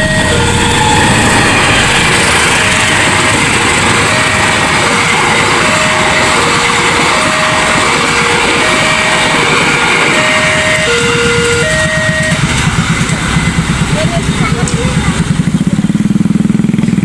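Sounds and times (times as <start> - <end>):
two-tone warning siren: 0.0 - 15.6
loud steady rushing noise: 0.0 - 17.0.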